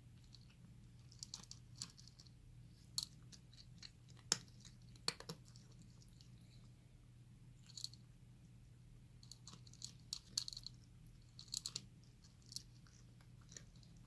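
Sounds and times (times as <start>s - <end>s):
steady low hum: 0.0s - 14.0s
cat chewing food: 0.1s - 6.8s, 9.2s - 14.0s.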